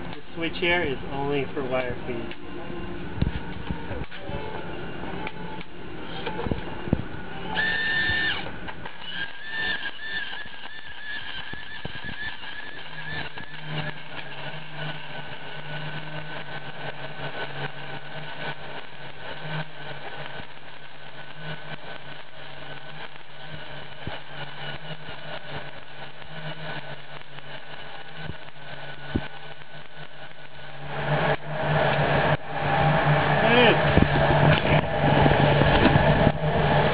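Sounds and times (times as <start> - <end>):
steady low hum: 0.0 - 36.9
welding arc crackling: 0.0 - 36.9.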